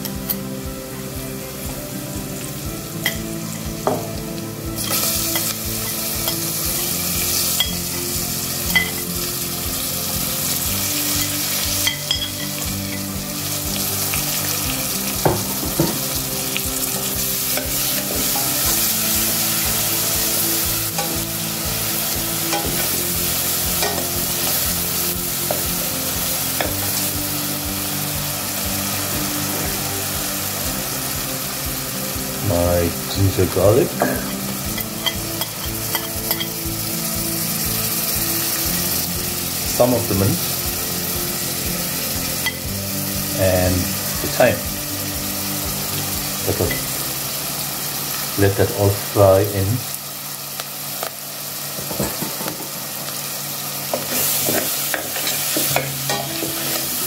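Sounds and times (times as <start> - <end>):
onions sizzling in oil: 0.0 - 57.0.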